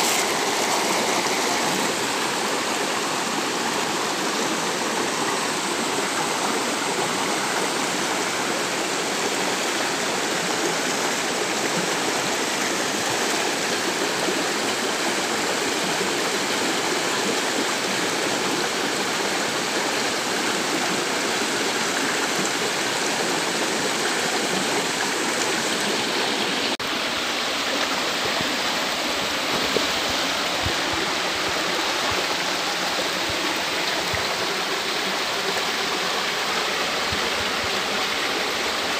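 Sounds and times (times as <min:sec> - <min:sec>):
water rushing in a rocky stream: 0:00.0 - 0:38.9.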